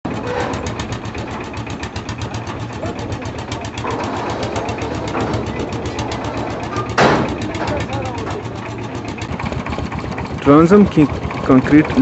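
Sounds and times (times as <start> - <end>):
construction machinery engine running: 0.1 - 12.0.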